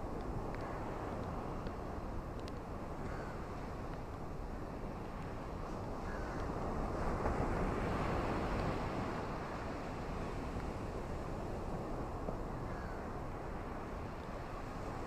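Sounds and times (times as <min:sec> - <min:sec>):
ocean waves washing on beach: 0:00.0 - 0:15.0.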